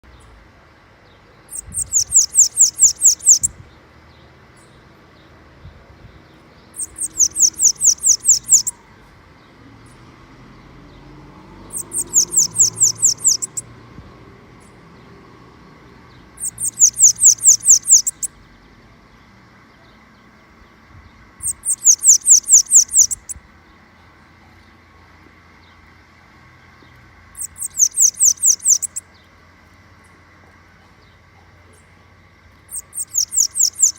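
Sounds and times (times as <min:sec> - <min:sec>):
small songbird singing: 0:01.0 - 0:33.9.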